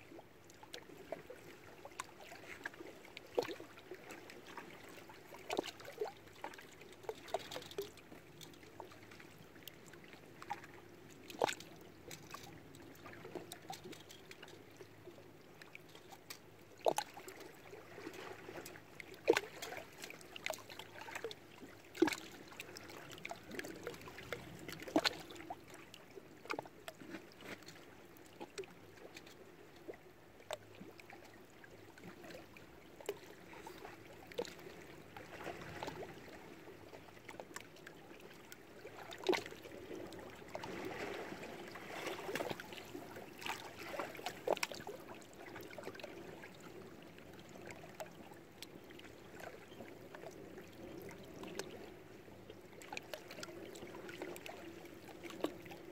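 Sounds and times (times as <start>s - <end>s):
small waves lapping against rocks: 0.0s - 55.9s.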